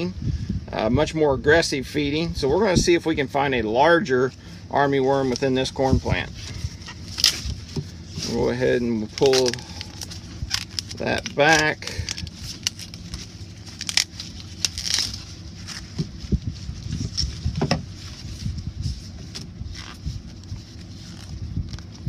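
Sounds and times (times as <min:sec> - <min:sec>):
low steady rumble: 0:00.0 - 0:22.0
corn leaves crackling and tearing: 0:04.2 - 0:22.0.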